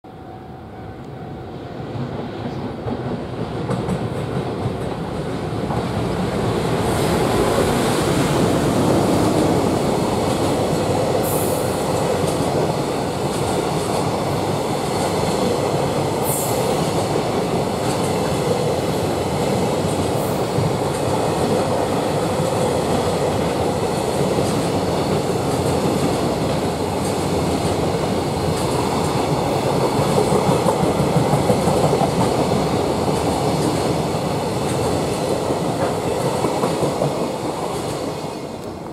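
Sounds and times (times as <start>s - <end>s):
train wheels on rails: 1.0s - 38.9s.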